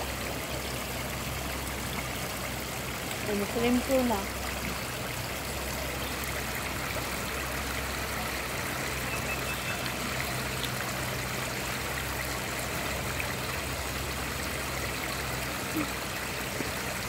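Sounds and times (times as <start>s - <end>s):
trickle of running water: 0.0s - 17.0s.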